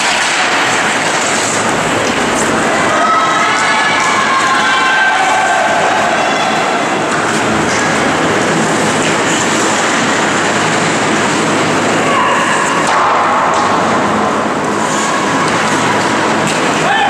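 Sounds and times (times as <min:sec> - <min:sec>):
crowd noise: 0:00.0 - 0:17.0
skates and sticks on ice: 0:00.0 - 0:17.0.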